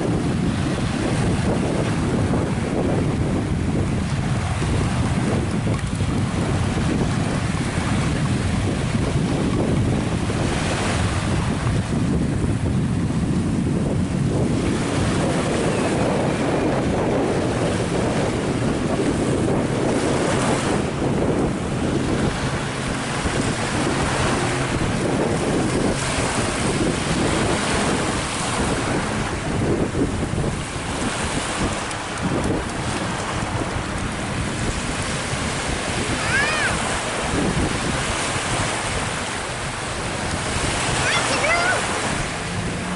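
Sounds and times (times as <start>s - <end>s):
sea rushing: 0.0s - 42.9s
wind buffeting microphone: 0.0s - 42.9s.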